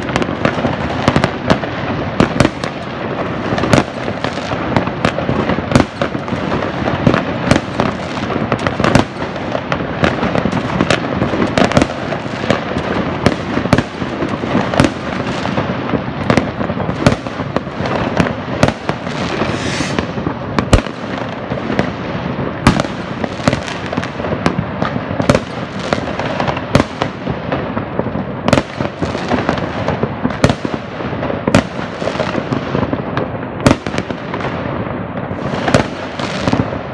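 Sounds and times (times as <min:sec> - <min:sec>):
firecrackers crackling: 0:00.0 - 0:36.9
fireworks bangs: 0:00.0 - 0:36.9.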